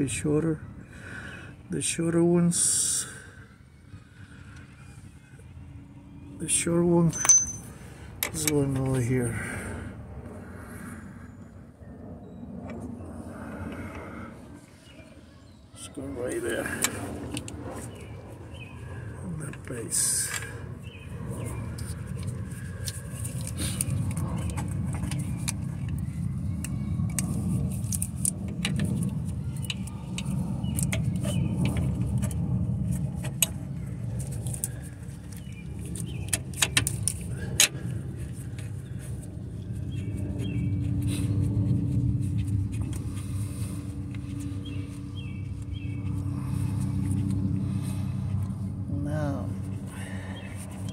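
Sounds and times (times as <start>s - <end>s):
low rumble: 7.1s - 15.8s, 16.6s - 50.9s.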